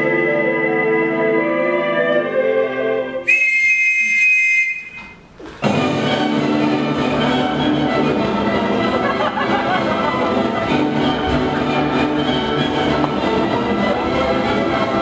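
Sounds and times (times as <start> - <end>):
full ensemble music: 0.0 - 15.0.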